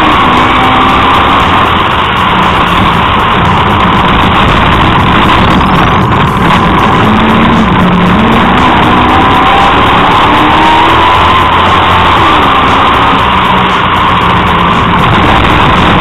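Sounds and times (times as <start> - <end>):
racing engine running hard: 0.0 - 16.0
road and tyre noise: 0.0 - 16.0.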